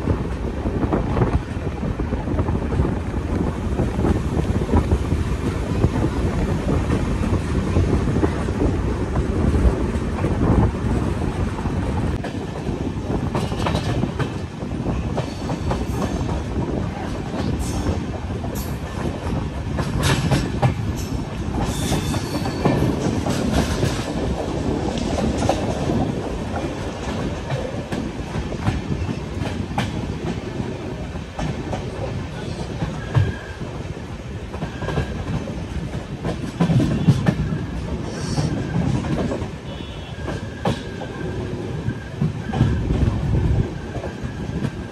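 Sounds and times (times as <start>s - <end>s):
clickety-clack of rail joints: 0.0s - 44.9s
train wheels rumbling on track: 0.0s - 44.9s.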